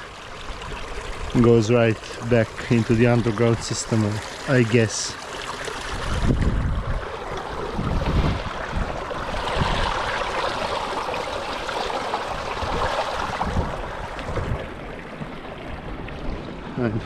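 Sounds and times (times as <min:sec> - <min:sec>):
stream water draining: 0:00.0 - 0:17.0.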